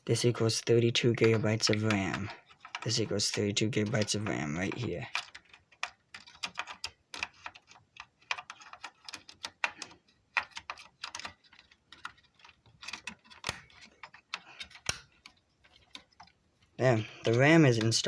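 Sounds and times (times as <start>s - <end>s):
computer parts clicking: 0.2s - 18.0s.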